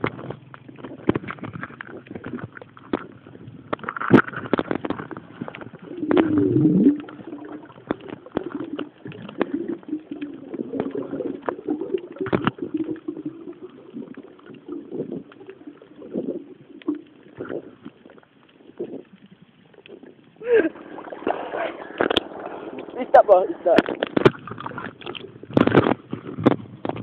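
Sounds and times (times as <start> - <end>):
low wavering underwater hum: 0.0 - 27.0.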